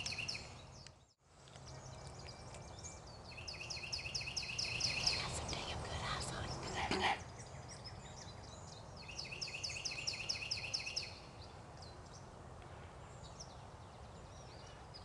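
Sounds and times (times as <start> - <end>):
songbird singing chirping notes: 0.0 - 12.4
faint woodland background noise: 0.0 - 15.0.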